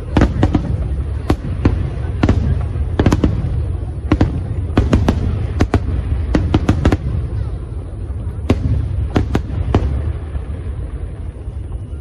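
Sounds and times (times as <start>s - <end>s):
sharp firework cracks: 0.0s - 11.0s.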